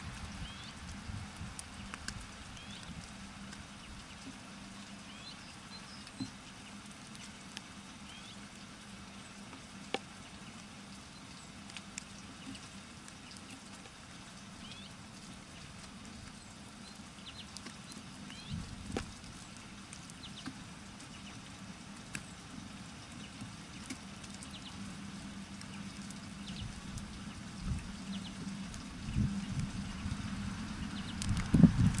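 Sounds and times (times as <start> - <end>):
small birds chirping: 0.3 - 32.0.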